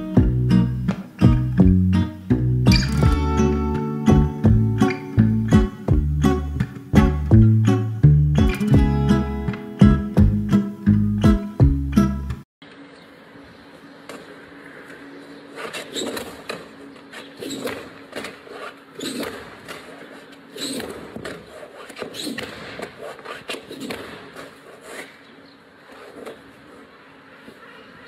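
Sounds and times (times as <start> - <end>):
low street background: 0.0 - 28.0.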